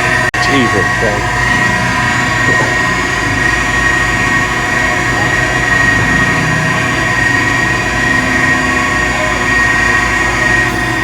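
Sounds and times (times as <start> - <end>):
heavy machinery engine running: 0.0 - 11.0
high whine: 0.0 - 11.0.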